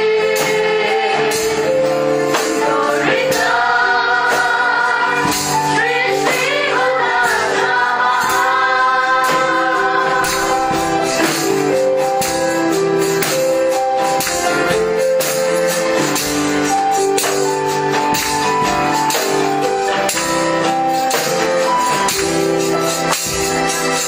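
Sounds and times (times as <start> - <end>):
tambourine beat: 0.0 - 24.0.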